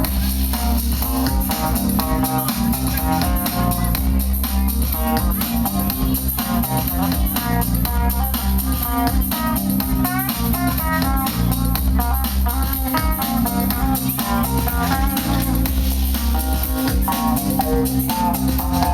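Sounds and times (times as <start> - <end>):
bass line: 0.0 - 18.9
drums: 0.0 - 18.9.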